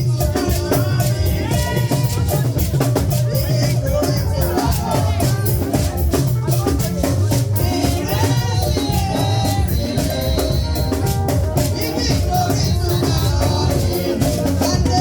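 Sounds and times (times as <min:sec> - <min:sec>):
church band music: 0:00.0 - 0:15.0
drum kit beat: 0:00.0 - 0:15.0
shakers: 0:00.0 - 0:15.0
voices singing: 0:00.0 - 0:15.0.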